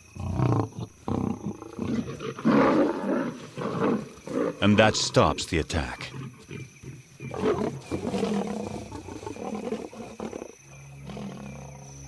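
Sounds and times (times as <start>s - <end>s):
lions snarling and growling: 0.0s - 5.3s, 6.0s - 12.0s.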